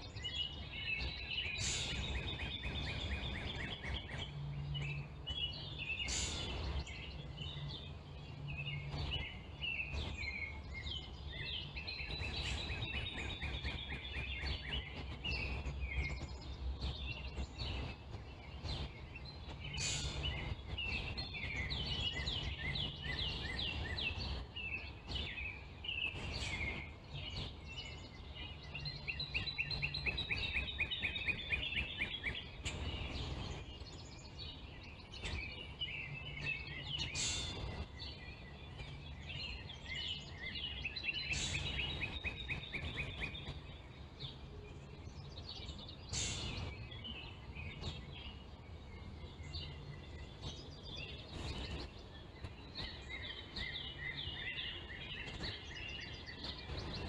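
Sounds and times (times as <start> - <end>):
songbirds singing: 0.0 - 57.0
steady low hum: 0.0 - 57.0.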